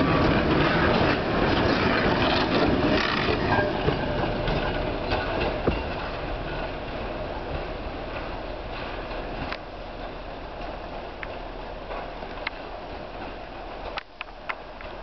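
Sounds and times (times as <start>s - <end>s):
diesel locomotive engine: 0.0s - 15.0s
train wheels rolling: 0.0s - 15.0s
wheels clicking over rail joints: 0.0s - 15.0s.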